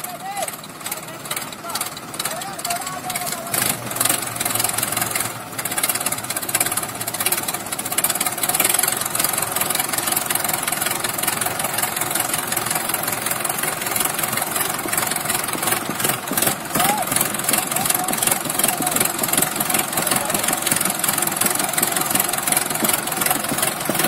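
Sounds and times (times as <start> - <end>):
tractor diesel engines labouring: 0.0 - 24.0.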